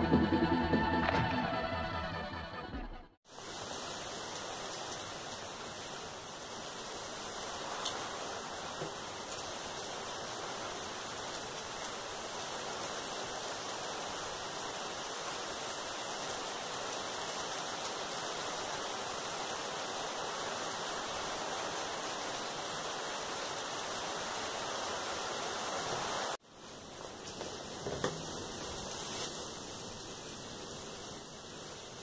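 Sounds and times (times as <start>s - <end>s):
steady hiss: 3.3s - 32.0s.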